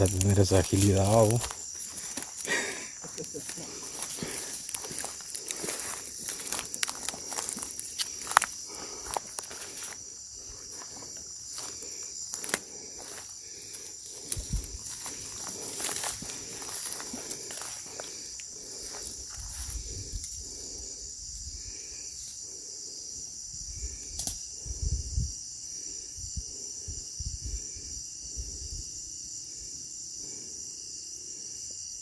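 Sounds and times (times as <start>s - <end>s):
crickets and insects trilling: 0.0s - 32.0s.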